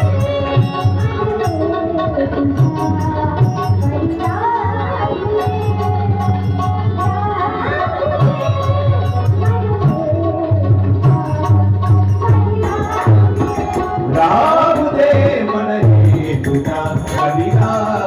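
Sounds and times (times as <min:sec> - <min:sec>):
tabla: 0:00.0 - 0:18.0.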